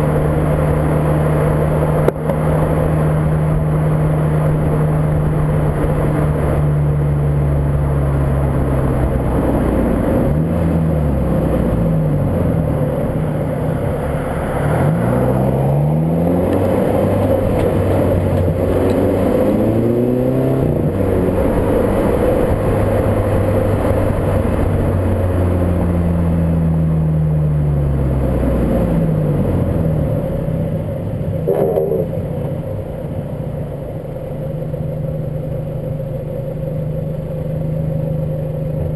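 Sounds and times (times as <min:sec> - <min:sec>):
car engine accelerating: 0:00.0 - 0:38.9
wind and road noise: 0:00.0 - 0:38.9.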